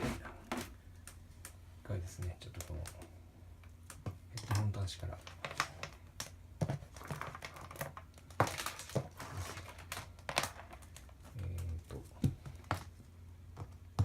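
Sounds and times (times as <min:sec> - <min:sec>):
steady low hum: 0:00.0 - 0:07.1, 0:07.8 - 0:14.0.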